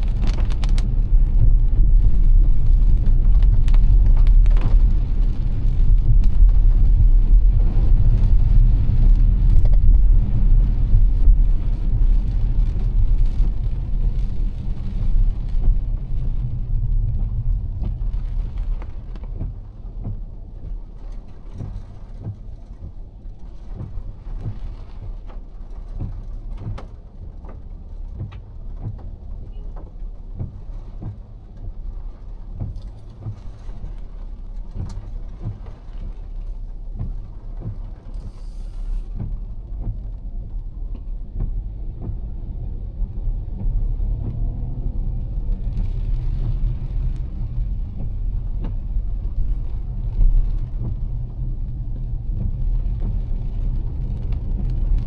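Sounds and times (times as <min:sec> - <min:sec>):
raindrops ticking on car: 0:00.0 - 0:55.0
tyres rumbling on wet road: 0:00.0 - 0:55.0.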